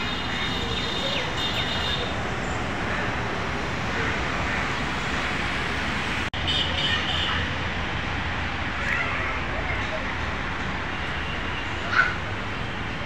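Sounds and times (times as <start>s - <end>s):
traffic-like rumble and hubbub: 0.0s - 13.0s.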